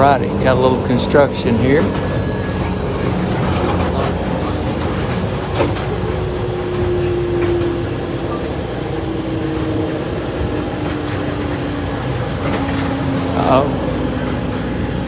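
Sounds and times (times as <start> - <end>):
tram car rumbling: 0.0 - 15.0.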